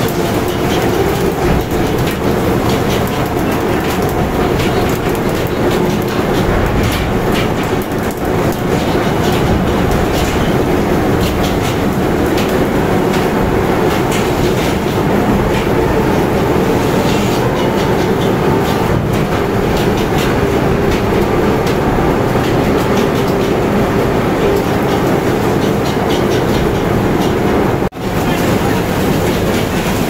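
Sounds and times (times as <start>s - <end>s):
machinery hum: 0.0s - 30.0s
steel chute rattling and knocking: 0.0s - 30.0s
water rushing and splashing: 0.0s - 30.0s.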